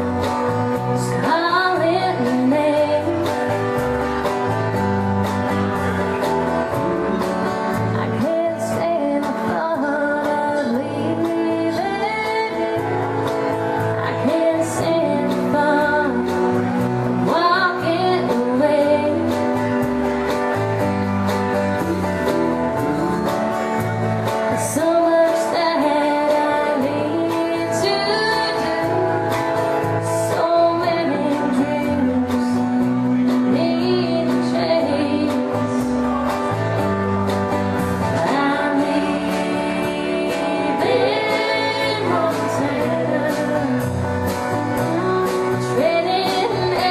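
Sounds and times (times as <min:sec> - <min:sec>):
woman singing: 0:00.0 - 0:03.9, 0:06.7 - 0:20.0, 0:21.8 - 0:36.2, 0:38.1 - 0:46.9
country band playing: 0:00.0 - 0:46.9.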